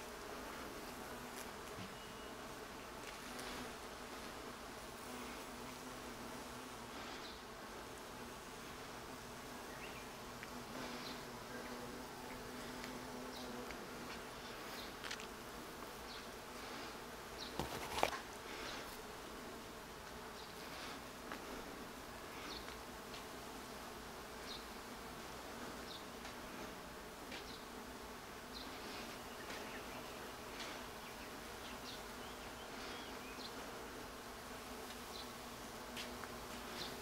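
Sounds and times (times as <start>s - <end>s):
bees buzzing: 0.0s - 37.0s.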